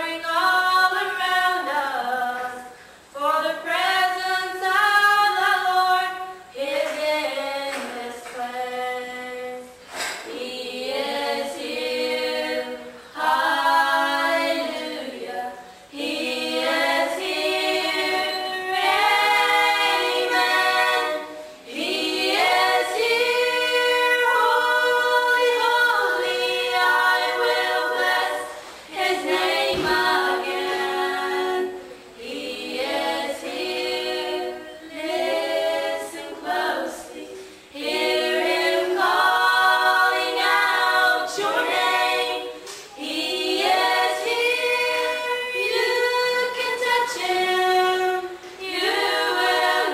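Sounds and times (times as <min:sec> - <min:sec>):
girls singing a cappella: 0:00.0 - 0:49.9.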